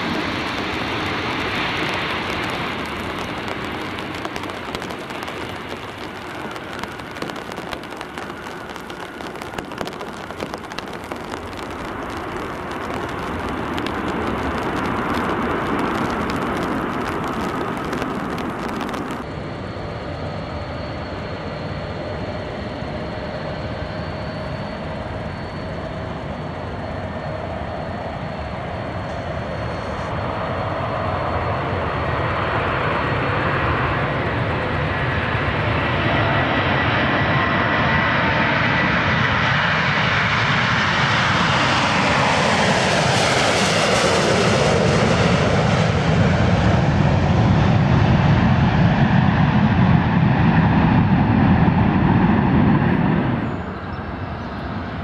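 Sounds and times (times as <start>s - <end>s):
jet engines at takeoff power: 0.0s - 55.0s.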